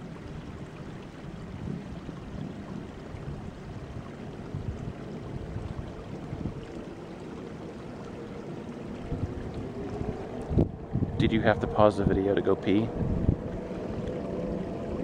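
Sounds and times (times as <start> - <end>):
wind buffeting microphone: 0.0 - 7.1, 8.8 - 15.0.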